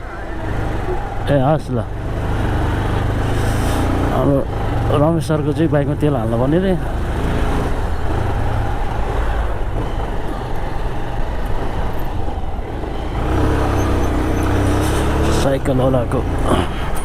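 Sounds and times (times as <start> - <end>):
road traffic rumble: 0.0 - 17.0
steady engine hum: 0.0 - 17.0.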